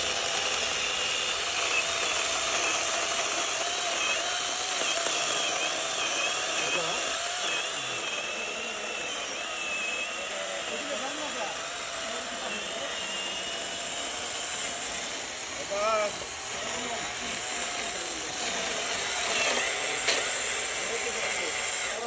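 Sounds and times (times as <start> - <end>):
electric chainsaw cutting wood: 0.0 - 22.0.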